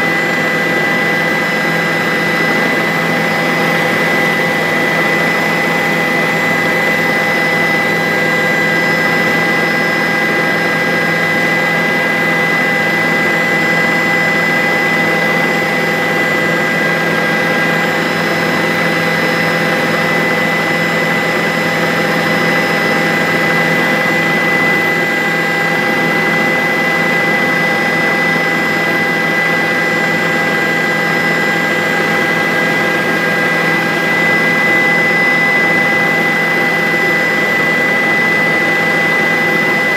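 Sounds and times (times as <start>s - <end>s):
helicopter engine and rotor roar: 0.0s - 39.9s.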